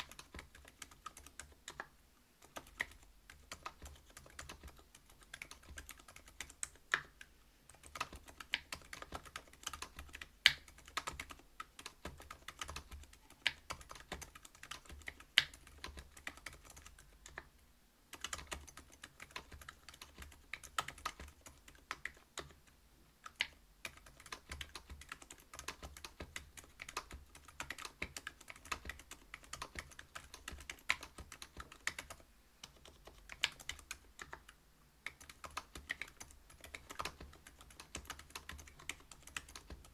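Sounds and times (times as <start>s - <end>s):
mechanical keyboard typing: 0.0s - 17.5s, 18.1s - 39.9s.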